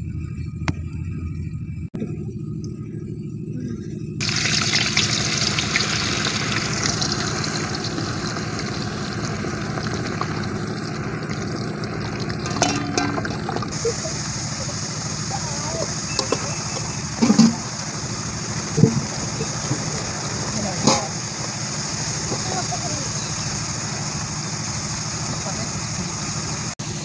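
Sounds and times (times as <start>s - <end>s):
low rumble: 0.0s - 23.3s
potatoes deep-frying in oil: 4.2s - 27.0s.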